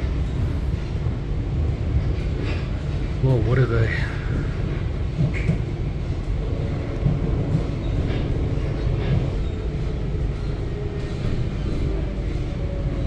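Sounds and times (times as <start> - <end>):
electric train rumbling: 0.0 - 13.0
faint clanks of train wheels: 0.0 - 13.0.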